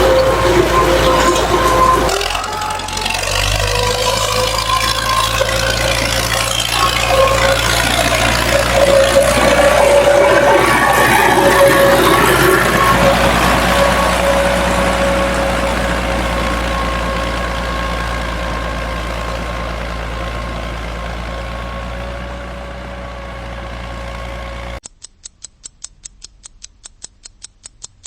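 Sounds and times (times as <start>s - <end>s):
engine humming with a whine: 0.0s - 24.8s.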